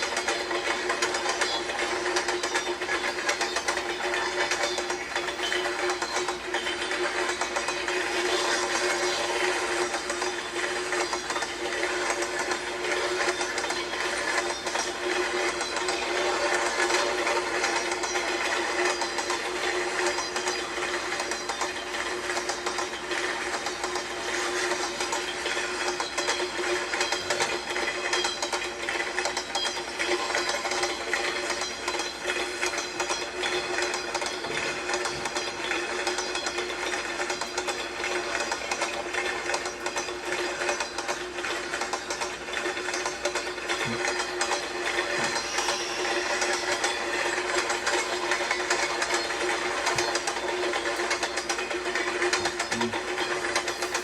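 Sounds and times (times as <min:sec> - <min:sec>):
steady train hum: 0:00.0 - 0:54.0
train wheels clickety-clack: 0:00.0 - 0:54.0.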